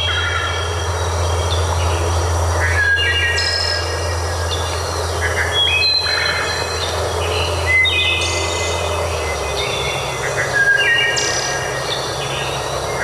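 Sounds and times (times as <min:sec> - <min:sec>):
birdsong whistled notes: 0:00.0 - 0:13.0
low steady hum: 0:00.0 - 0:13.0.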